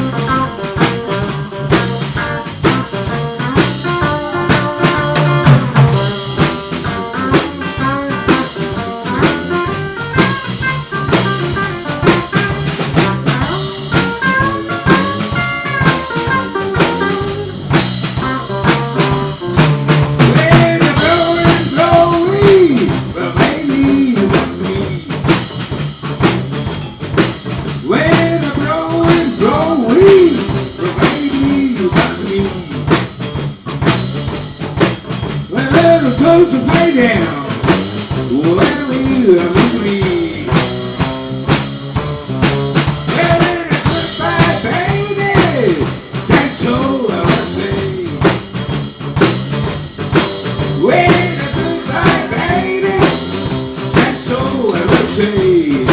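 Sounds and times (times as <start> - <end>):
band playing live: 0.0 - 55.9
drum kit beat: 0.0 - 55.9.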